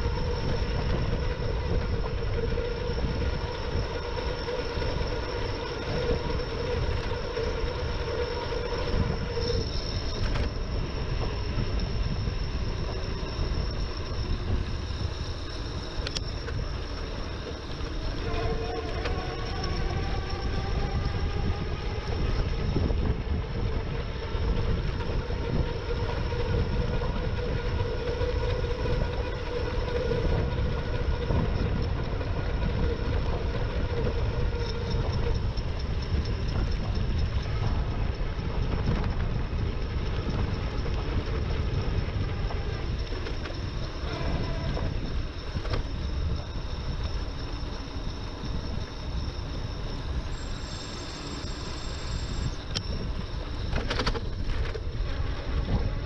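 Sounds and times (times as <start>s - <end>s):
road noise: 0.0s - 56.0s
steady motor whine: 0.0s - 56.0s
wind buffeting microphone: 0.0s - 56.0s.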